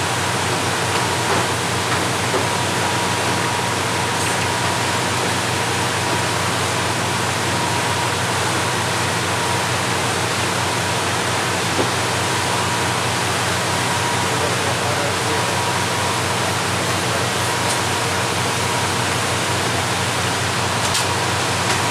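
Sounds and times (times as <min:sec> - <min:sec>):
boat engine humming: 0:00.0 - 0:21.9.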